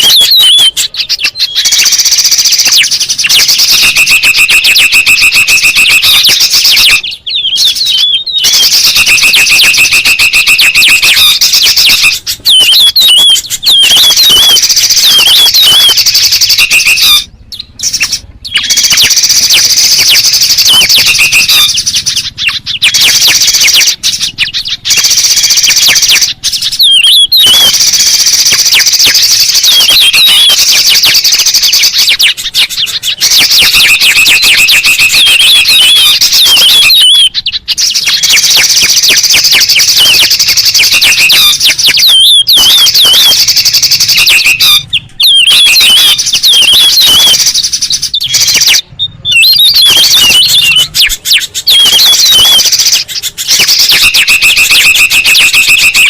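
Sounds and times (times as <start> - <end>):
buzzy bird trill: 0.0 - 56.0
songbirds chattering and whistling: 0.0 - 56.0.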